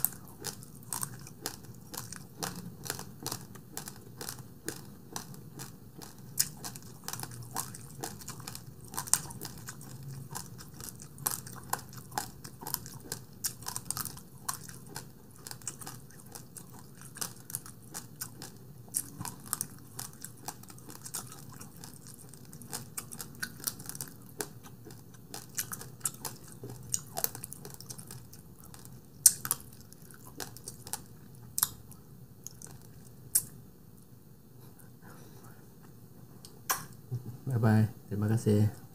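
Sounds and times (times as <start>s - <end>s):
person chewing food: 0.0s - 34.1s.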